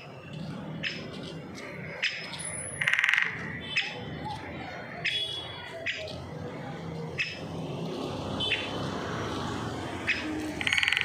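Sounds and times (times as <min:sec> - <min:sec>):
faint distant voices: 0:00.0 - 0:10.9
steady background noise: 0:00.0 - 0:11.0.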